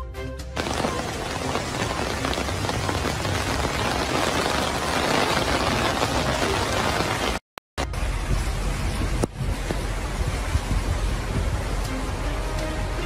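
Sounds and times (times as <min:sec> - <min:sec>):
heavy rain on floodwater: 0:00.6 - 0:13.0.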